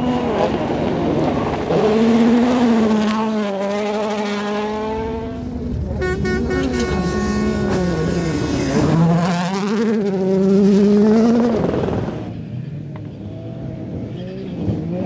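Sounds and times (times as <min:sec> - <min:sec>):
rally car engine revving: 0:00.0 - 0:12.4.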